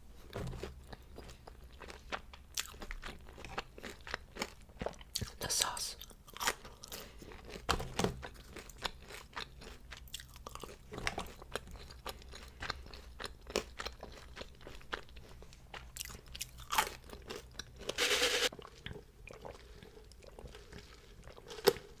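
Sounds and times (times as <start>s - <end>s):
crunchy chewing: 0.2s - 5.4s, 6.0s - 22.0s.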